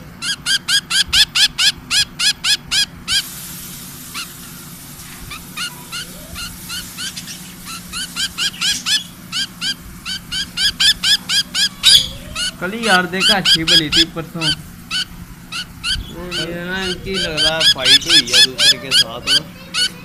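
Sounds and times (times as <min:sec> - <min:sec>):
budgerigar chirping: 0:00.0 - 0:03.3, 0:04.1 - 0:04.6, 0:05.3 - 0:20.0.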